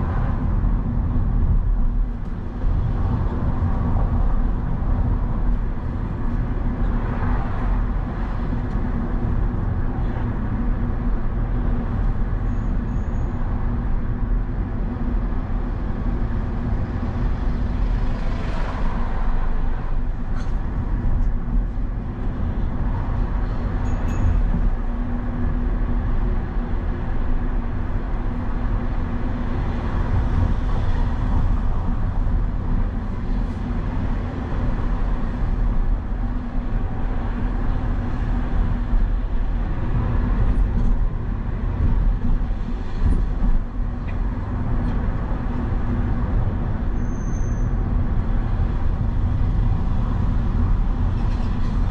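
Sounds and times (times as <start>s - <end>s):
traffic passing: 0.0s - 51.9s
vehicle engine and road noise: 0.0s - 51.9s.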